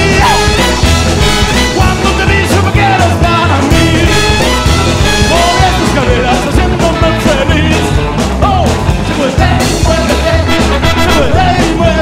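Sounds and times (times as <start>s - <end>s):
person singing: 0.0s - 0.8s, 1.7s - 4.5s, 5.2s - 12.0s
rockabilly band playing: 0.0s - 12.0s.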